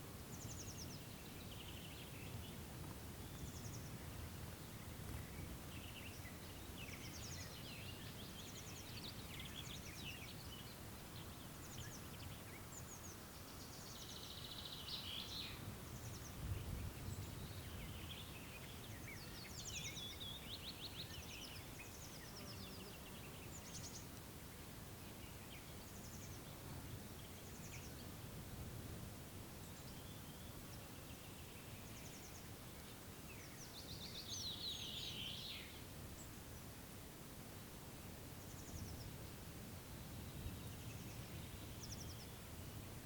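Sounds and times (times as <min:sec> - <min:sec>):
songbirds chirping: 0:00.0 - 0:43.0.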